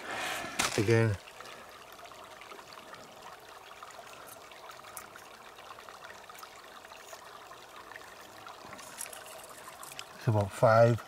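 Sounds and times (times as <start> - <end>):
trickle of running water: 0.0 - 11.0.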